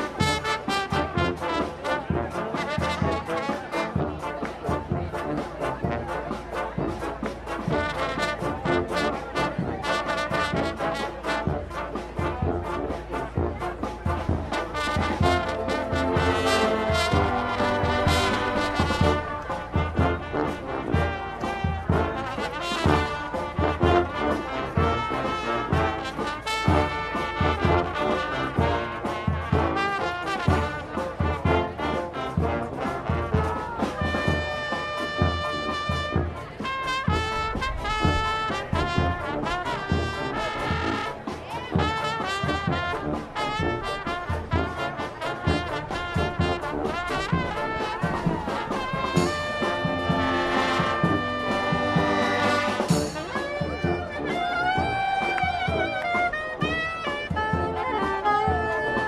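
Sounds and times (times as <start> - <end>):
marching brass band playing: 0.0 - 59.0.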